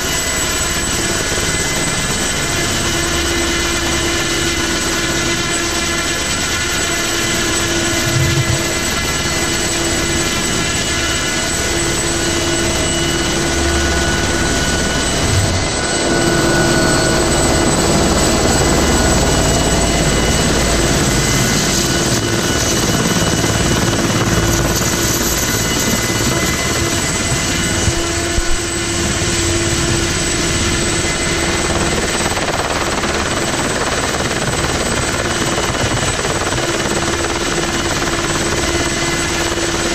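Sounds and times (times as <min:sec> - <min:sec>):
helicopter hovering drone: 0:00.0 - 0:39.9.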